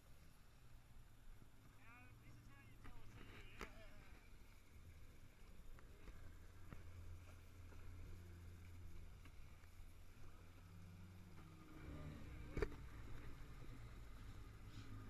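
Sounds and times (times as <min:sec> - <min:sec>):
personal watercraft engine: 0:00.0 - 0:15.0.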